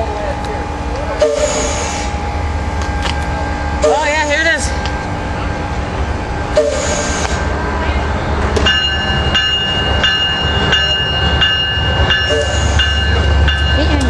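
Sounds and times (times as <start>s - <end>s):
train rumbling: 0.0s - 14.0s
train bell ringing: 1.2s - 7.4s, 8.6s - 14.0s.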